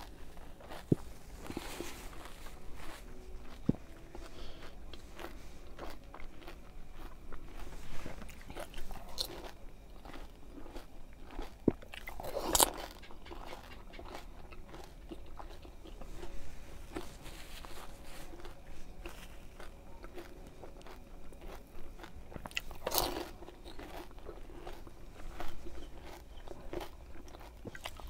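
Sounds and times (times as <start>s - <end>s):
chewing: 0.0s - 28.0s
crunching crisp shells: 0.0s - 28.0s.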